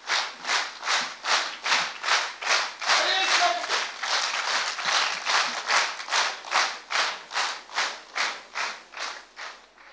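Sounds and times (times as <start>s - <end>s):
audience clapping in unison: 0.0s - 9.9s.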